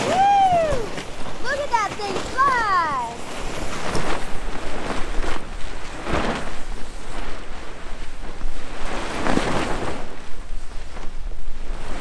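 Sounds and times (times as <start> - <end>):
sea rushing: 0.0 - 12.0
wind rumbling on microphone: 0.0 - 12.0.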